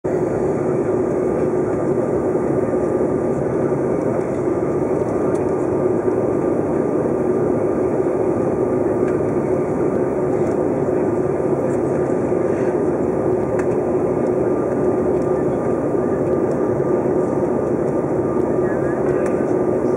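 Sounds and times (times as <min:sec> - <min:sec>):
jet engine and airflow roar: 0:00.0 - 0:19.9
constant cabin hum: 0:00.1 - 0:19.9.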